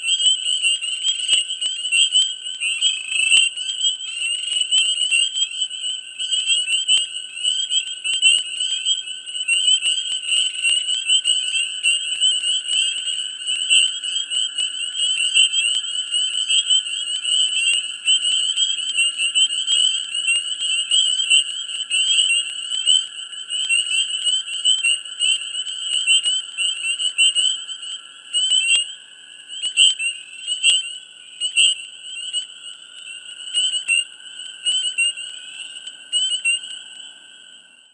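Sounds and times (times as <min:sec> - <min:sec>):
high trilling frog calls: 0:00.0 - 0:37.9
low drone of frog calls: 0:00.0 - 0:37.9.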